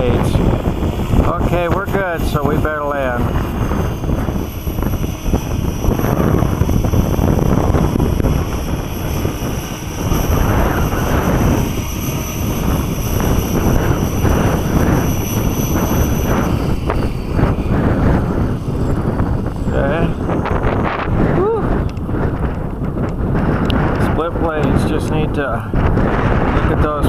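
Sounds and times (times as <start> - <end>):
rc helicopter motor whine: 0.0 - 27.0
wind buffeting on microphone: 0.0 - 27.0.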